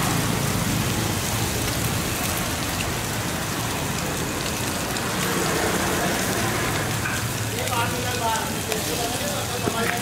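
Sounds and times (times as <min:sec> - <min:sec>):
spices sizzling in oil: 0:00.0 - 0:10.0.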